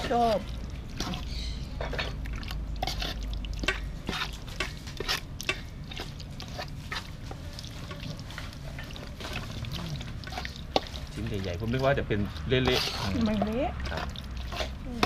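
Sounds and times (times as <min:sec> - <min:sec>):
wet squelching of stirred mixture: 0:00.0 - 0:15.0.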